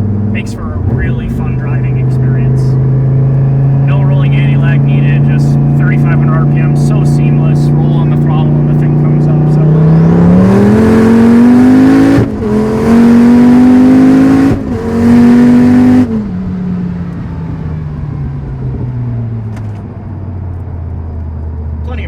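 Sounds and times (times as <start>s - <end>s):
sports car engine at full throttle: 0.0s - 22.0s.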